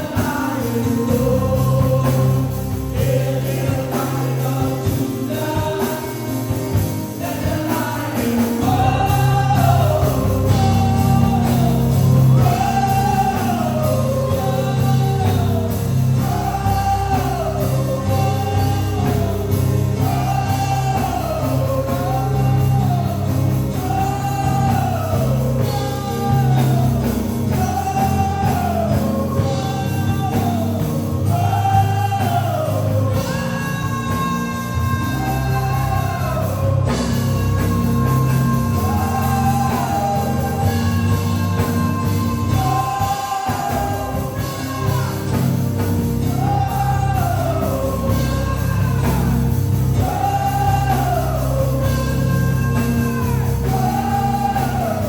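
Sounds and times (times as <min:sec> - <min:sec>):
bass and band accompaniment: 0:00.0 - 0:55.0
voices singing gospel: 0:00.0 - 0:55.0.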